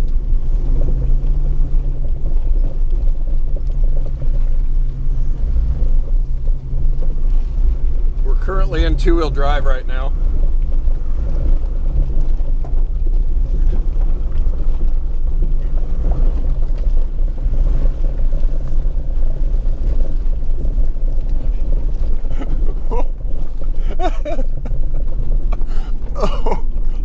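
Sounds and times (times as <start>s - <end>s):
low engine and drivetrain rumble: 0.0s - 27.0s.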